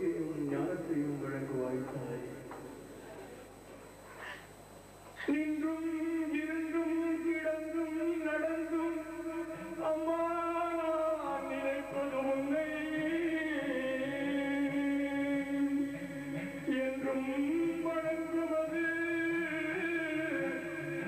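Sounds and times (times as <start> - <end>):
devotional chanting: 0.0 - 3.2, 5.2 - 21.0.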